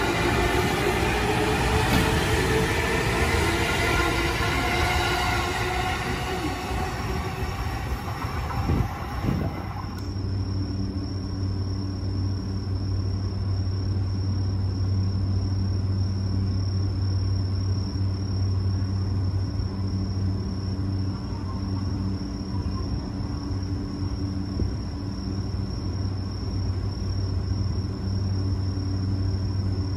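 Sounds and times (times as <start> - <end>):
electric train humming: 0.0 - 29.9
train running through station: 0.0 - 29.9.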